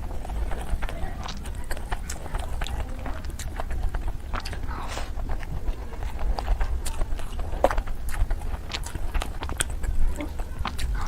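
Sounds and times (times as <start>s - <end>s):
low steady hum: 0.0s - 11.0s
person chewing food: 0.0s - 11.0s
wet mouth clicks and smacks: 0.0s - 11.0s.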